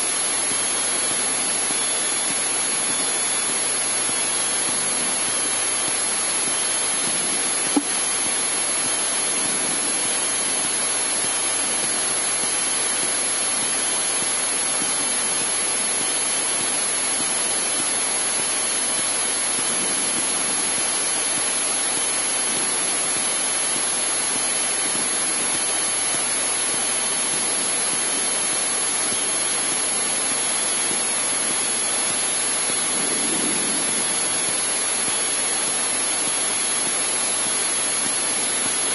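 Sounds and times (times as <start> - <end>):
small plane engine and propeller: 0.0 - 38.9.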